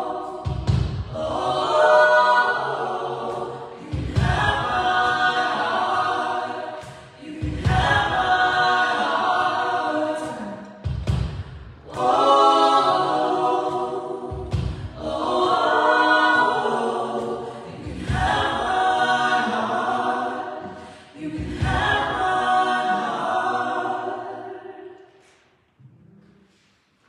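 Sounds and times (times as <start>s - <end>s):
group singing a hymn: 0.0s - 25.5s.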